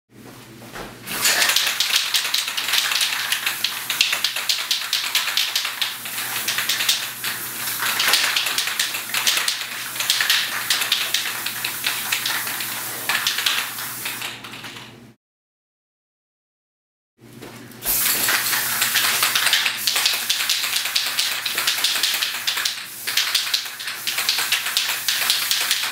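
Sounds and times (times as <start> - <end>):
spray can hissing bursts: 1.1 - 14.6, 17.8 - 25.9.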